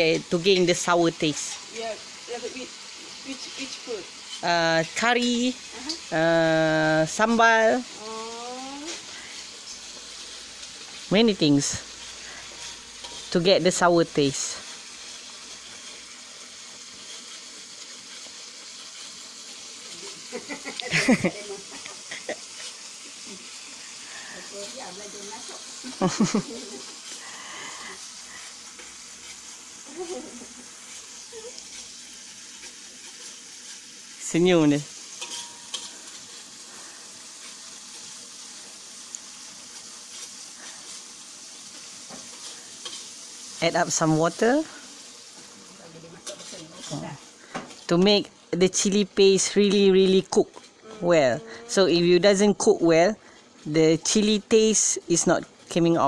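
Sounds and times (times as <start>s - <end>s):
paste sizzling in a wok: 0.0s - 56.0s
ladle stirring in a wok: 0.2s - 6.1s, 8.8s - 48.5s.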